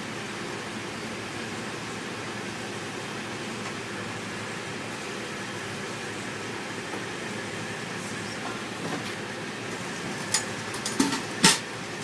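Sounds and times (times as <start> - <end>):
steady rushing kitchen noise: 0.2 - 12.0.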